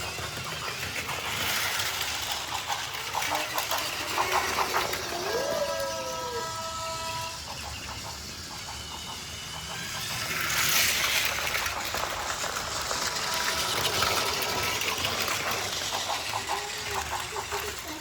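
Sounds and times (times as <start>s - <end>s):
toy train rhythmic clicking: 0.0s - 18.0s
toy train whirring hiss: 0.0s - 18.0s.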